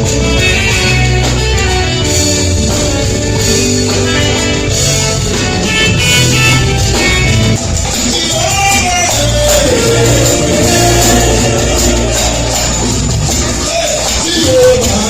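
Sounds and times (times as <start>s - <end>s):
band music with guitar and drums: 0.0s - 15.0s.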